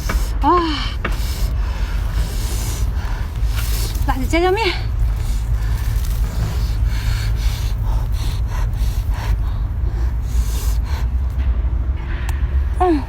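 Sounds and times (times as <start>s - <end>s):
sharp gasping breaths and sniffs: 0.0s - 11.6s
steady low rumble: 0.0s - 13.0s.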